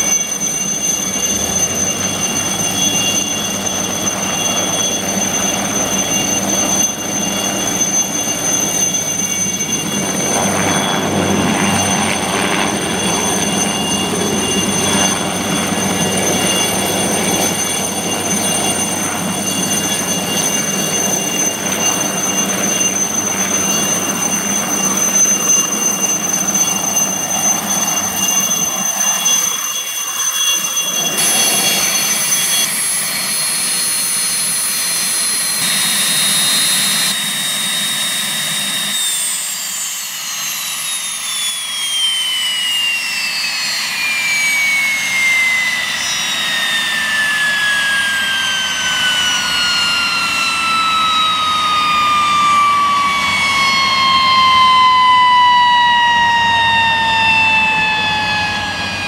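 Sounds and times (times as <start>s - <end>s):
helicopter rotor noise: 0.0s - 59.0s
helicopter turbine whine: 0.0s - 59.0s.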